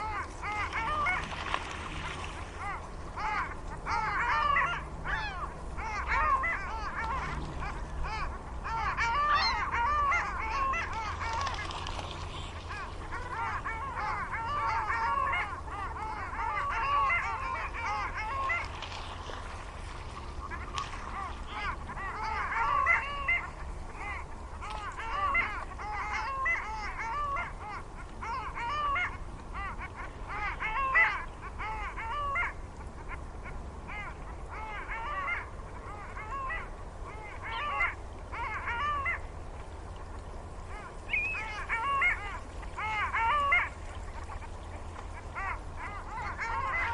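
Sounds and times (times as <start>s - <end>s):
ducks calling: 0.0s - 46.9s.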